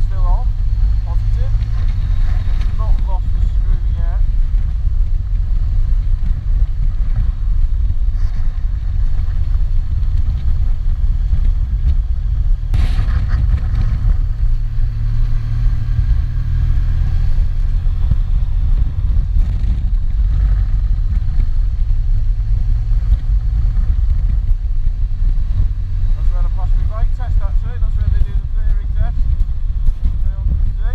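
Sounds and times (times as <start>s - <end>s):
motorcycle engine running: 0.0s - 30.9s
wind buffeting microphone: 0.0s - 30.9s.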